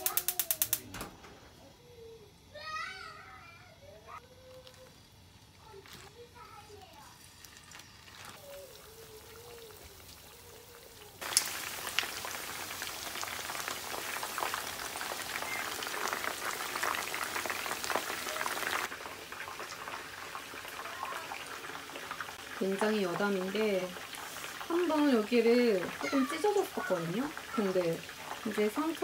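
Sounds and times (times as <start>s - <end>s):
chicken deep-frying in hot oil: 0.0s - 0.8s, 1.8s - 29.0s.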